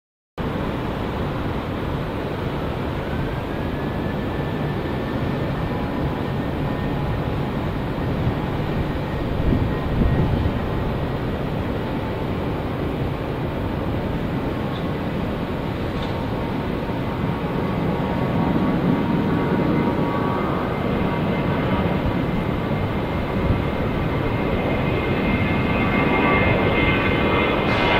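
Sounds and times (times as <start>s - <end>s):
jet engines running: 0.4s - 27.9s.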